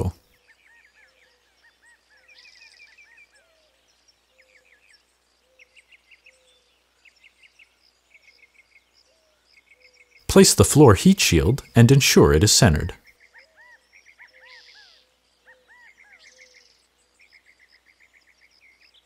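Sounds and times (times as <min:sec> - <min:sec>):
faint bird chirping: 0:00.0 - 0:10.3, 0:11.3 - 0:19.0.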